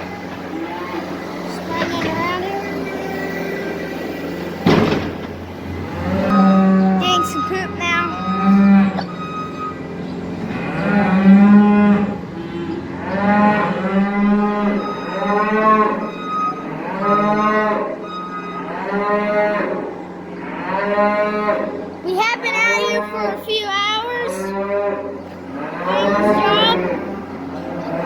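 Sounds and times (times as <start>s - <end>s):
cattle mooing: 0.2s - 3.7s, 5.6s - 22.0s, 24.2s - 28.0s.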